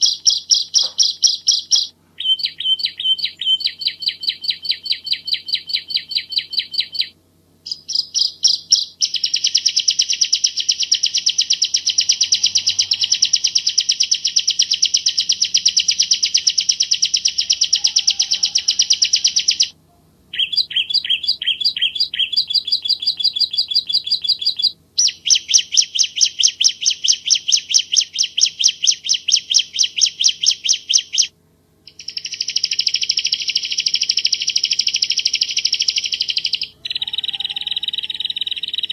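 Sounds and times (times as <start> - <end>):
bird rapid sharp chirping: 0.0 - 31.3, 31.9 - 38.9.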